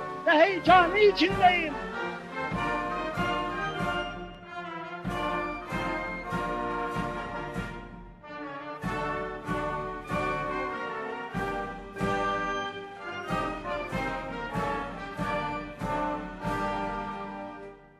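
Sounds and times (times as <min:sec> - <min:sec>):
orchestral music with brass: 0:00.0 - 0:17.9.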